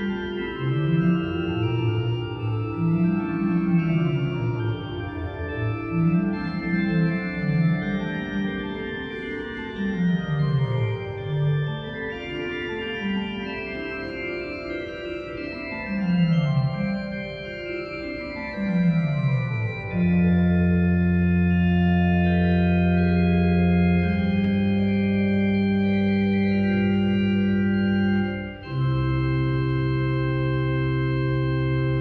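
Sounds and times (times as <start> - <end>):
organ playing: 0.0 - 32.0.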